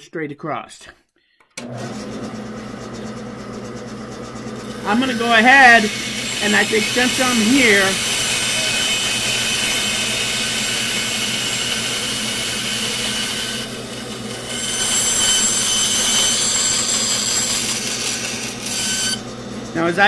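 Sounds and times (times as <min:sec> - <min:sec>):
bandsaw cutting wood: 0:01.6 - 0:20.0.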